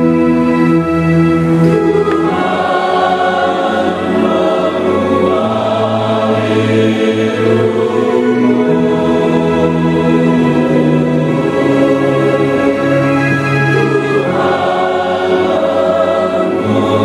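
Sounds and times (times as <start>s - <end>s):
choir singing a hymn: 0.0s - 17.0s.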